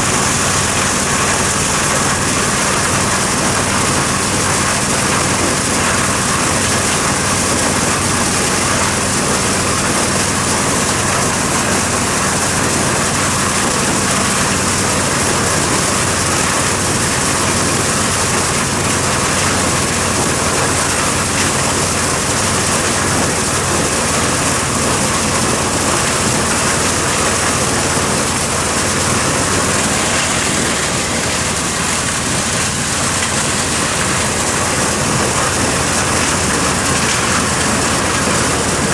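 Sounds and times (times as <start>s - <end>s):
engine drone: 0.0s - 38.9s.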